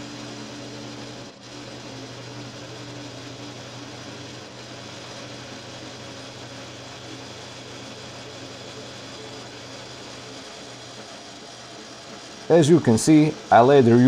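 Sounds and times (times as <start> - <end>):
drill press milling wood: 0.0 - 14.0
motor hum: 0.0 - 14.0.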